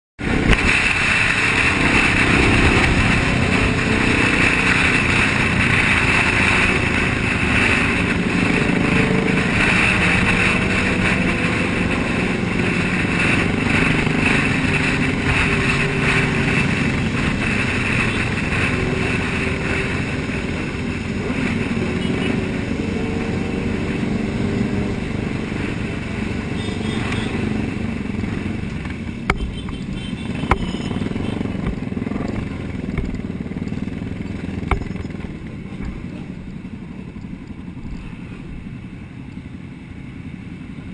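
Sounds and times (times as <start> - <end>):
motorcycles riding at speed: 0.2 - 40.9.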